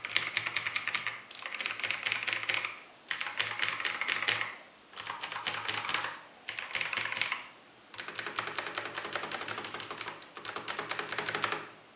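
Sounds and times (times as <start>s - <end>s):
clicky mechanical keyboard typing: 0.0s - 11.7s.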